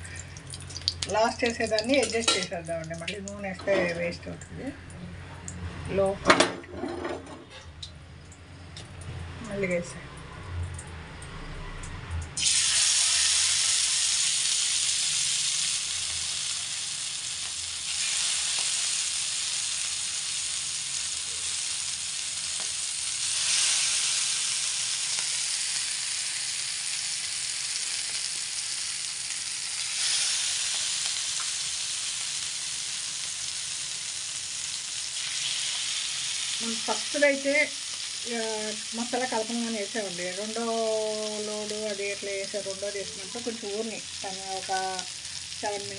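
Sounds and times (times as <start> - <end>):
oil sizzling in a pan: 0.0 - 4.8, 11.2 - 45.9.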